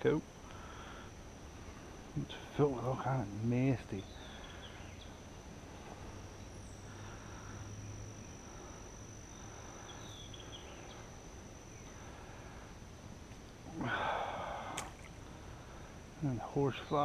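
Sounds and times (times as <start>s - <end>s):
faint outdoor ambience: 0.0s - 17.0s
high-pitched insect drone: 0.0s - 17.0s.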